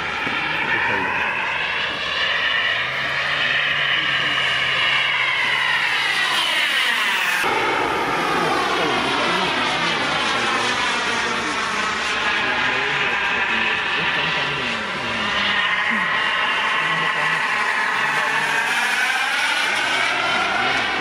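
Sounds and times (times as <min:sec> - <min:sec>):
model jet turbine whining: 0:00.0 - 0:21.0.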